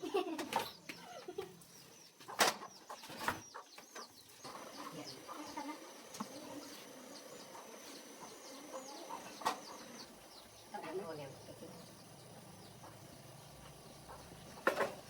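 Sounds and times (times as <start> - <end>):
birds chirping: 0.0 - 15.0
faint chickens: 0.0 - 15.0.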